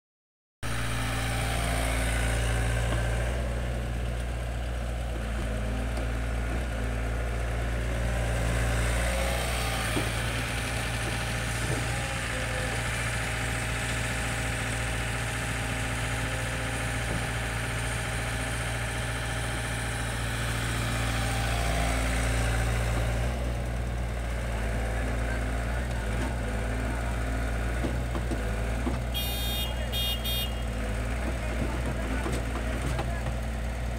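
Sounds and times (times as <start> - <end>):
excavator diesel engine running: 0.6 - 33.9.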